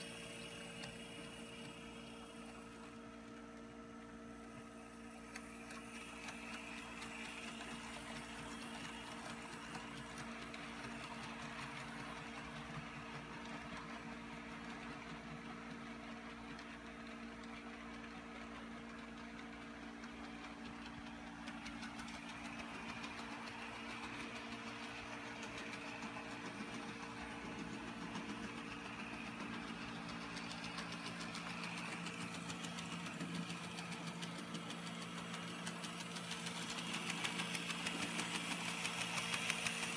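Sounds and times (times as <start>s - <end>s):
wheels clicking on rail: 0.0s - 3.7s, 4.4s - 39.9s
model train motor whirring: 0.0s - 39.9s.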